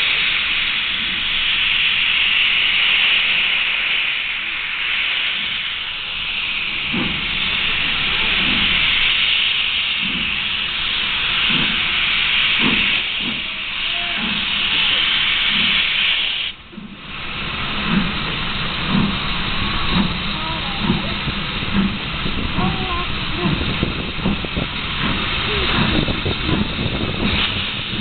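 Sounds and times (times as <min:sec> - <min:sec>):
steam locomotive hissing: 0:00.0 - 0:28.0.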